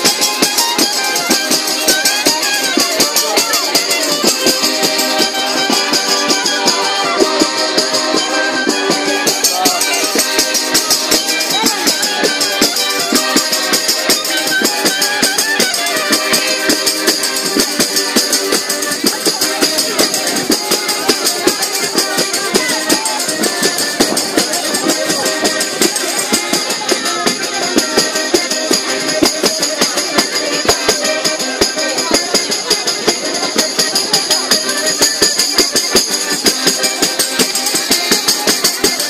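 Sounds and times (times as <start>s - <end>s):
fast percussion beat: 0.0s - 39.0s.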